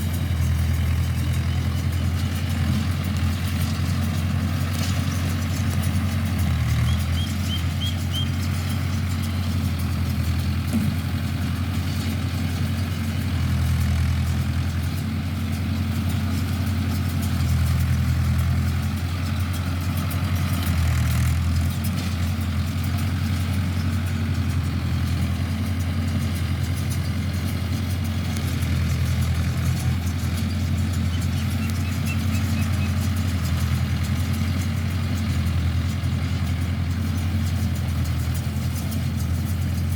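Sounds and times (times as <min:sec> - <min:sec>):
tractor diesel engine humming: 0:00.0 - 0:39.9.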